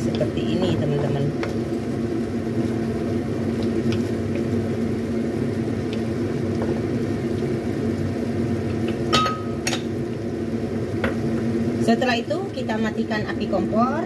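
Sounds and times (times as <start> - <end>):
low hum of kitchen machinery: 0.0 - 14.0.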